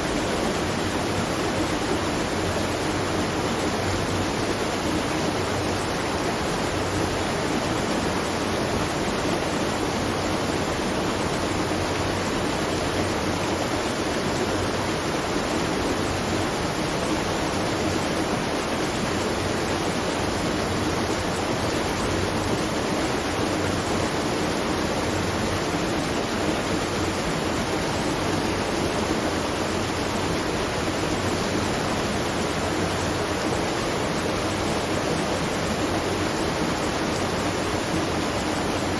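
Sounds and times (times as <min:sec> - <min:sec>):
water rushing and splashing: 0:00.0 - 0:38.9.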